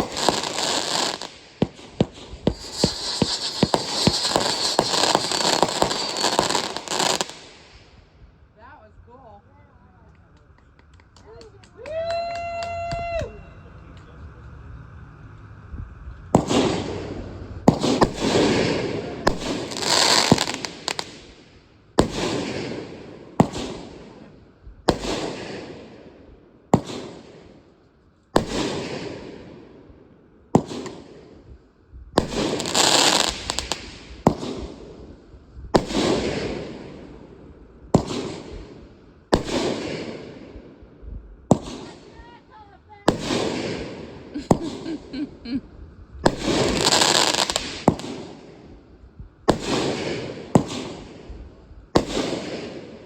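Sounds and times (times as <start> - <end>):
fireworks bangs: 0.0 - 8.7, 15.5 - 53.0
fireworks crackling hiss: 0.0 - 9.3, 12.9 - 29.6, 30.5 - 53.0.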